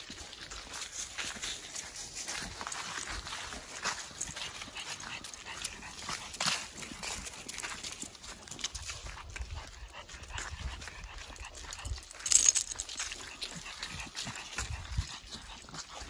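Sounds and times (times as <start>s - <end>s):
footsteps crunching dry leaves: 0.0s - 16.0s
dog breathing heavily: 0.4s - 16.0s.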